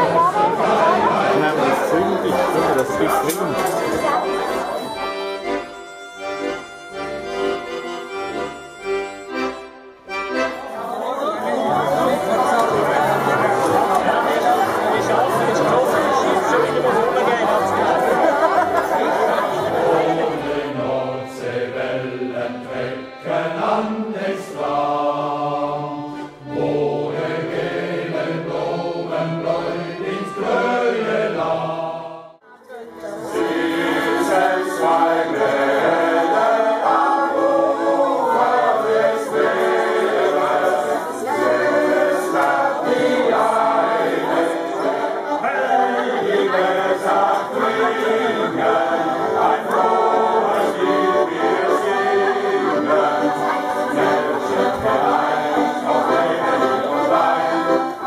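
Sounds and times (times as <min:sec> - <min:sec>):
choir singing a sea song: 0:00.0 - 0:05.6, 0:11.5 - 0:32.4, 0:33.0 - 0:58.0.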